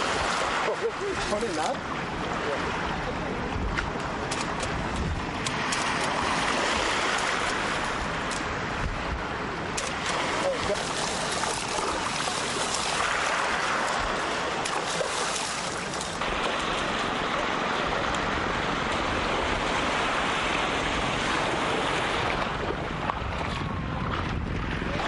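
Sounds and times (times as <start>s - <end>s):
sea water washing at shoreline: 0.0s - 25.0s.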